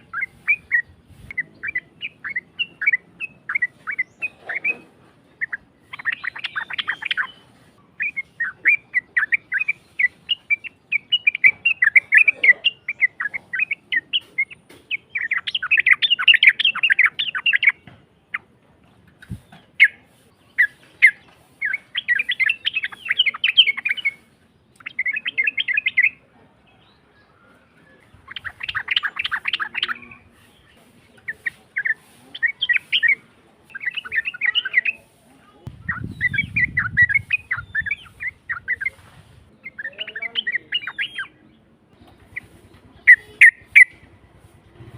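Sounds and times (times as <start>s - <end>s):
bird chattering song: 0.0s - 44.9s.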